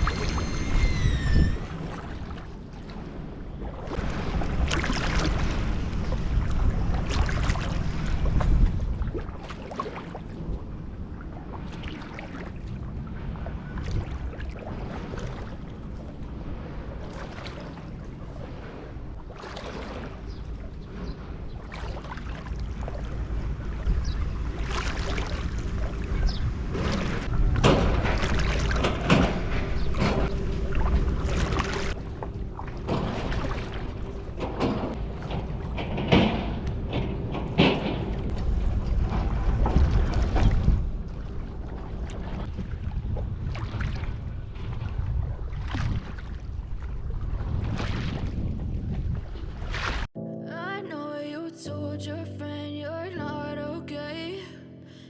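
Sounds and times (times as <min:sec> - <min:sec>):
wind buffeting microphone: 0:00.0 - 0:50.1
paddle splashing in water: 0:00.0 - 0:50.2.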